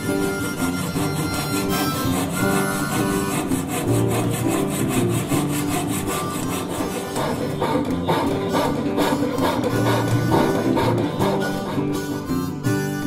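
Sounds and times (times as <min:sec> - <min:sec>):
metal file scraping wood: 0:00.0 - 0:11.9
music playing: 0:00.0 - 0:13.0.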